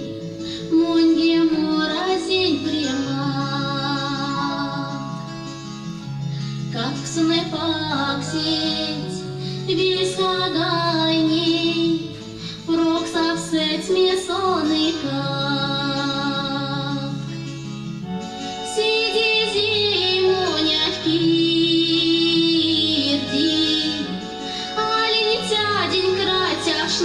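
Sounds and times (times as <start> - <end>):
woman singing: 0.0 - 5.4, 6.6 - 17.4, 18.1 - 27.0.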